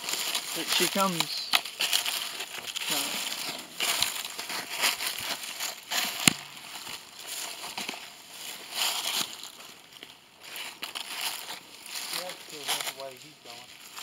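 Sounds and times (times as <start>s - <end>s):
footsteps crunching through dry leaves: 0.0s - 14.0s.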